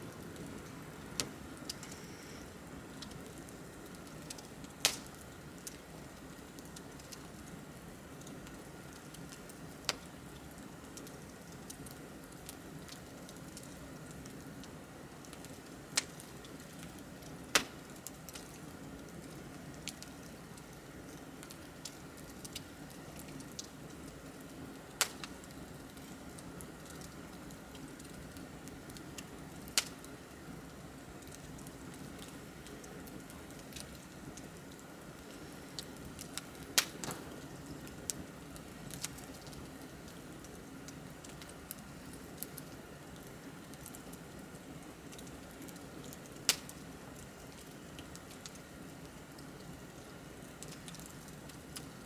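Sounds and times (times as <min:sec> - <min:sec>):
bonfire crackling: 0:00.0 - 0:52.0
fire pops and snaps: 0:00.2 - 0:02.1, 0:02.9 - 0:52.0.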